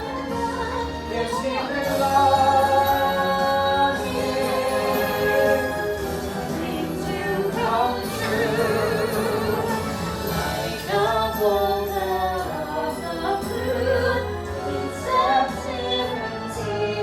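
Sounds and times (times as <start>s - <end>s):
recorded backing music: 0.0s - 17.0s
women singing slow song: 0.0s - 17.0s.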